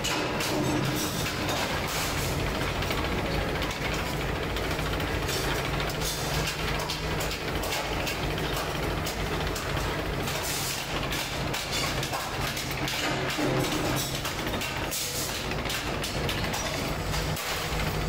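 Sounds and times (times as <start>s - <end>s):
roller forming machine humming: 0.0s - 18.0s.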